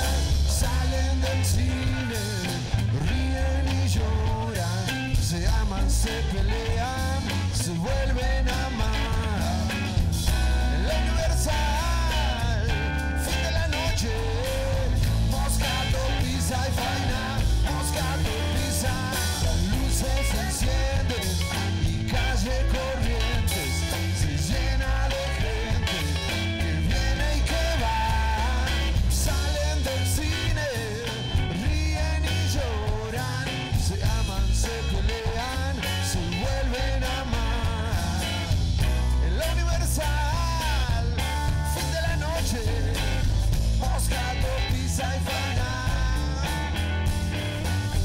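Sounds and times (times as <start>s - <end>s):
rock band playing live: 0.0s - 48.0s.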